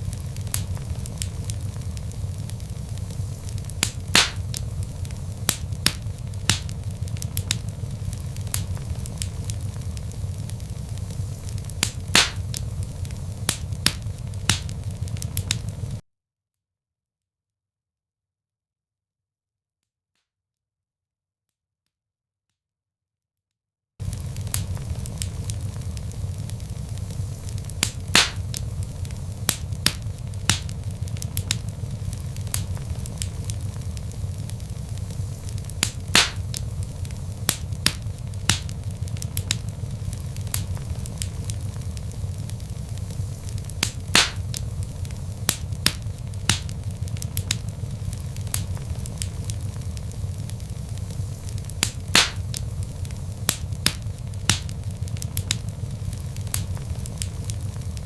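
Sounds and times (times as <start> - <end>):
logs burning with crackles: 0.0 - 16.0, 24.0 - 58.0
loud fire pops: 0.0 - 16.0, 24.0 - 58.0.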